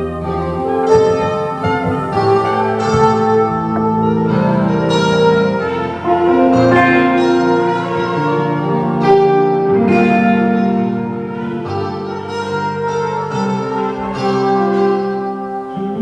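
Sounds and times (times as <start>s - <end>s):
live band sustained chords: 0.0s - 16.0s.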